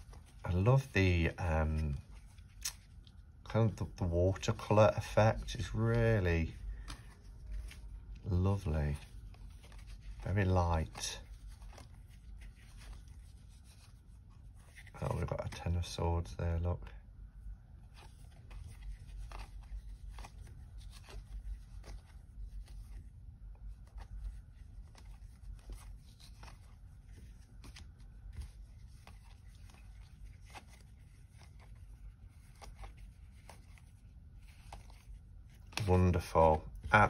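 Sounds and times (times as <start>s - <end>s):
cards flipping and rustling: 0.0s - 16.6s, 17.7s - 37.0s
low room hum: 0.0s - 37.0s.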